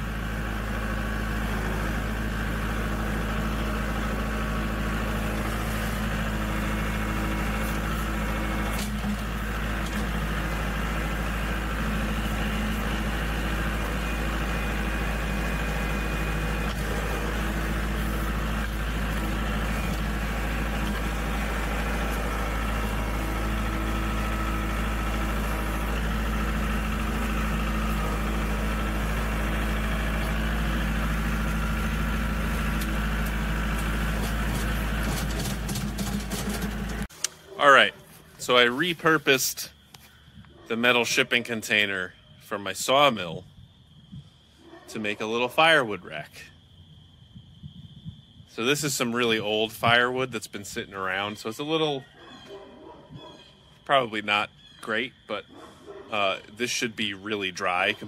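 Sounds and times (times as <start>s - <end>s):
tractor engine running: 0.0s - 42.0s, 45.1s - 58.0s.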